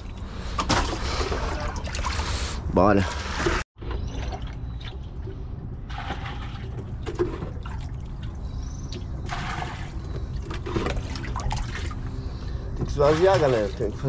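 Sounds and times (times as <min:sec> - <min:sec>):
water splashing and pouring: 0:00.0 - 0:05.1, 0:05.9 - 0:12.0, 0:12.9 - 0:14.0.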